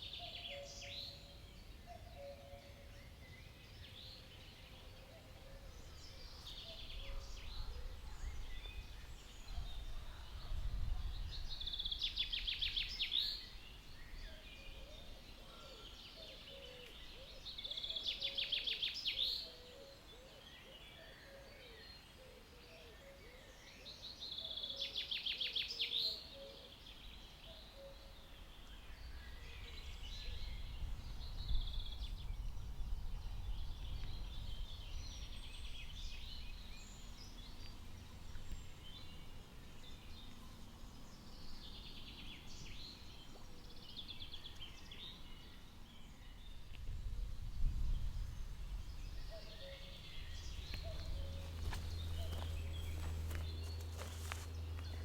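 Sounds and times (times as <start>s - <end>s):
songbirds trilling song: 0.0s - 55.0s.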